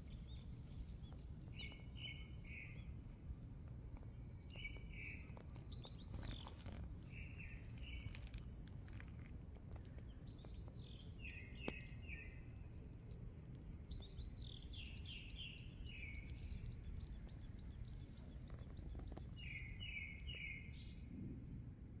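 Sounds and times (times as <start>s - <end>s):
small birds chirping: 0.0s - 21.6s
steady low rumble: 0.0s - 22.0s.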